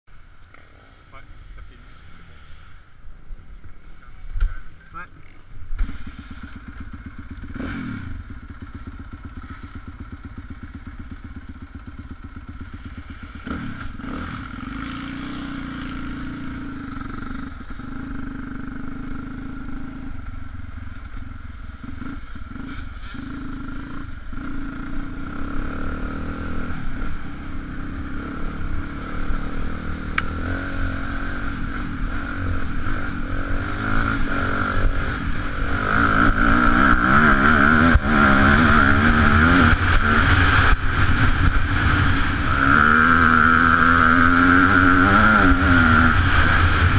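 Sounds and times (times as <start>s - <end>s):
motorcycle engine running: 0.4s - 46.9s.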